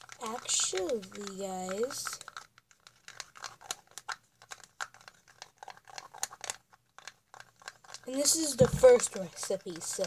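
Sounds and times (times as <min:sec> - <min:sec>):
utensil stirring thick shampoo: 0:00.0 - 0:10.0
utensil tapping and scraping cup: 0:00.0 - 0:10.0.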